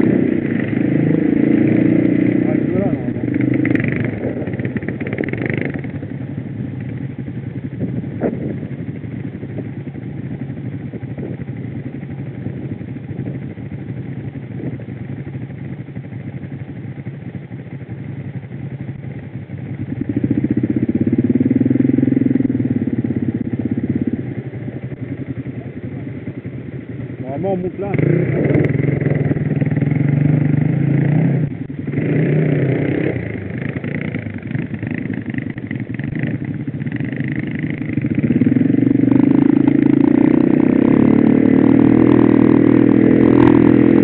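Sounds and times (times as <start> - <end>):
quad bike engines droning: 0.0 - 44.0.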